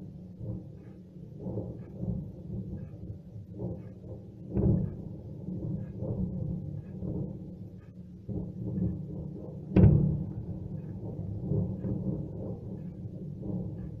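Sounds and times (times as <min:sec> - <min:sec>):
low rumble of explosions: 0:00.0 - 0:14.0.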